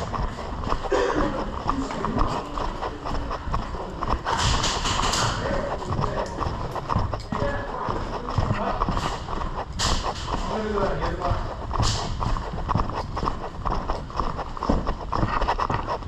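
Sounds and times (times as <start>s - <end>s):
quick footsteps on hard floor: 0.0s - 16.0s.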